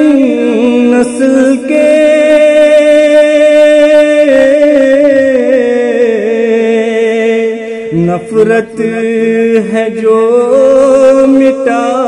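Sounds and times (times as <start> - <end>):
man singing long wavering note: 0.0 - 12.0.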